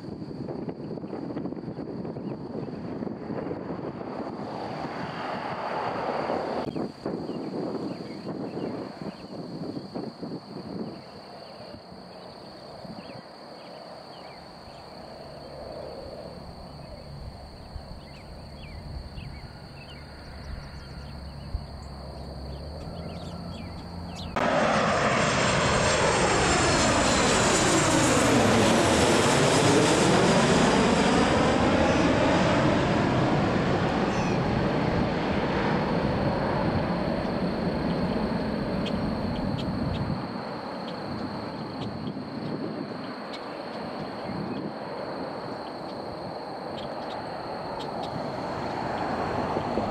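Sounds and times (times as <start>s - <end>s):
jet plane passing overhead: 0.0s - 49.9s.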